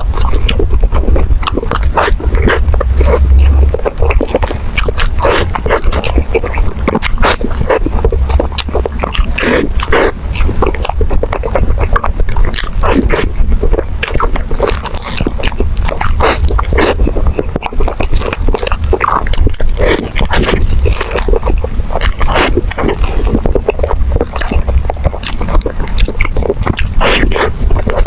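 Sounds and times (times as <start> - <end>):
low rumble: 0.0 - 26.9
person chewing food: 0.0 - 28.0.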